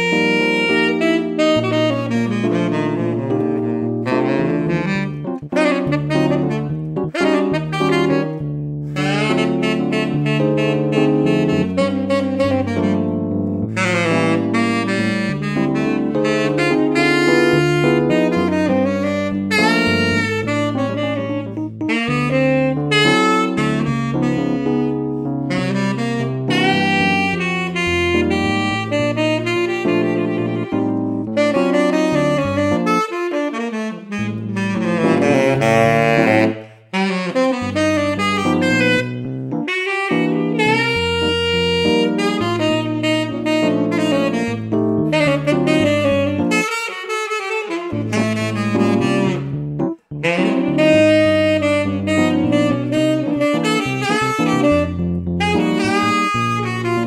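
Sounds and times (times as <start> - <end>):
electric piano chords: 0.0 - 57.0
tenor saxophone jazz melody: 0.0 - 57.0.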